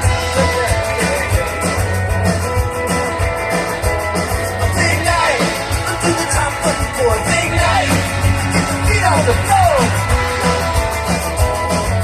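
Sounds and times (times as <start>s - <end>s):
drum kit steady beat: 0.0s - 12.0s
electric guitar: 0.0s - 12.0s
rock band instrumental: 0.0s - 12.0s.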